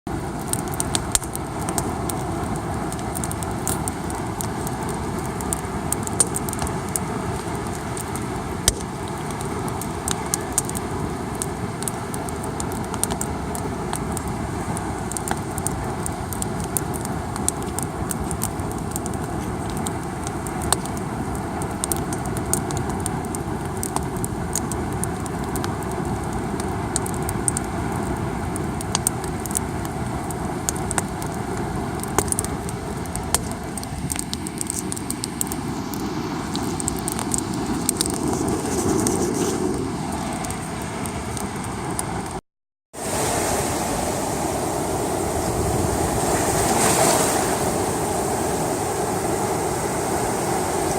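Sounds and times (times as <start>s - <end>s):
campfire crackling and popping: 0.1s - 42.4s.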